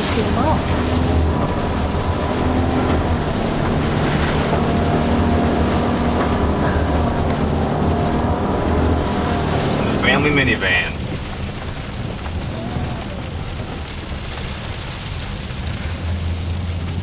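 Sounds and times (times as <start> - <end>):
car engine low rumble: 0.0 - 17.0
tyres churning through slush: 0.0 - 17.0.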